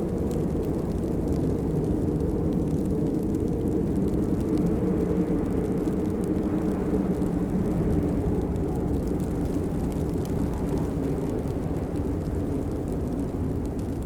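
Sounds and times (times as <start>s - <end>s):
patter of raindrops: 0.0s - 14.0s
steady rain rumble: 0.0s - 14.0s.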